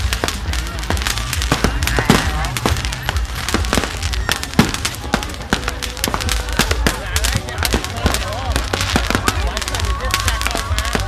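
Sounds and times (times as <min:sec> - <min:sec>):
firework bang: 0:00.0 - 0:11.0
fireworks cracking and popping: 0:00.0 - 0:11.0.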